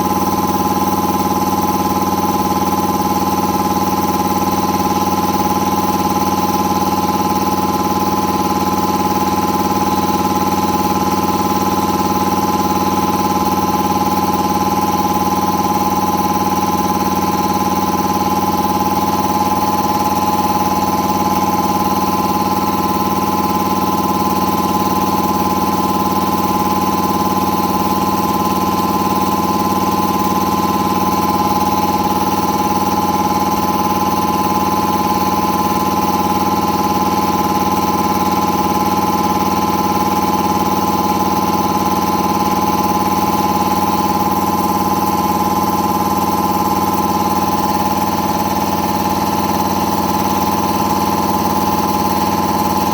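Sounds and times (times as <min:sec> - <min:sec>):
air compressor running: 0:00.0 - 0:52.9.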